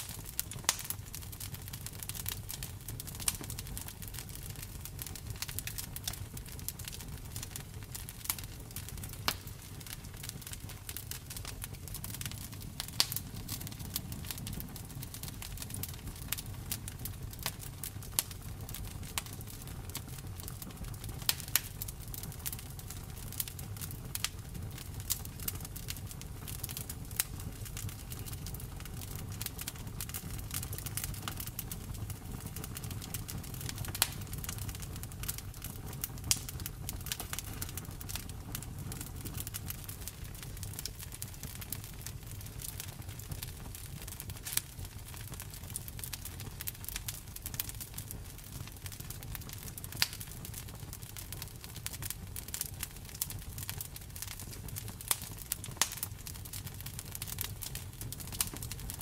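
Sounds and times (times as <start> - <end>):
low rumble of flames: 0.0 - 59.0
wood crackling and popping: 0.0 - 59.0.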